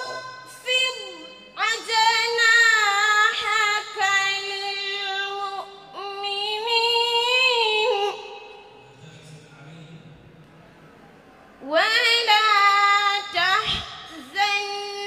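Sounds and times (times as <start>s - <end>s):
girl reciting melodically: 0.0s - 8.7s, 11.6s - 15.0s.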